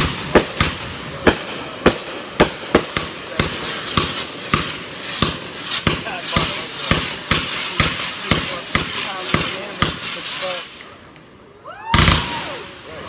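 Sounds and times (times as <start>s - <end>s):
firework shots popping: 0.0s - 11.3s
hiss of burning firework: 0.0s - 12.7s.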